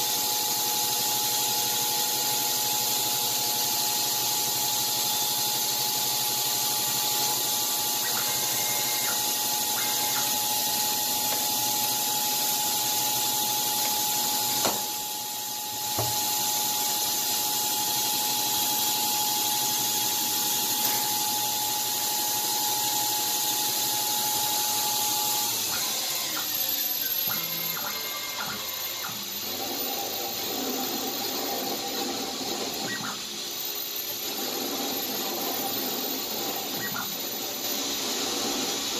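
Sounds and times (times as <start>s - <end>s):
lathe cutting hiss: 0.0s - 38.9s
machine whine: 0.0s - 38.9s.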